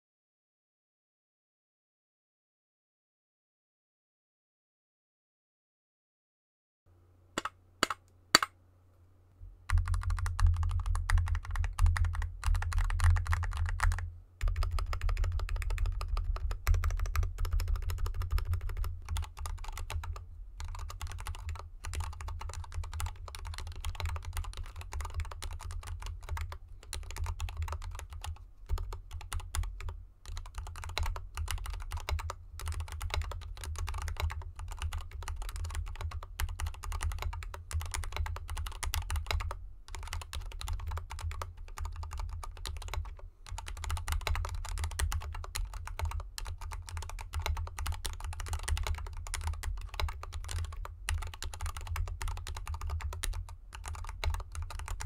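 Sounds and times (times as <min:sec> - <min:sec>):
fast typing on mechanical keyboard: 0:09.7 - 0:55.0.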